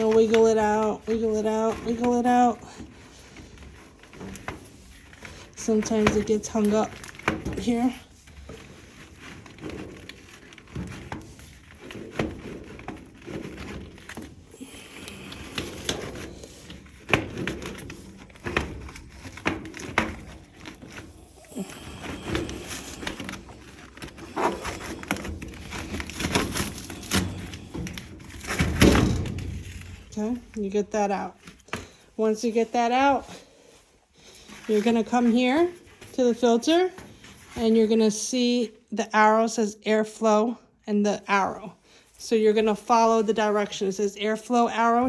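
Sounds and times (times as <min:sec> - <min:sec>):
air filter crinkling and scraping: 0:00.0 - 0:40.4, 0:41.2 - 0:45.0.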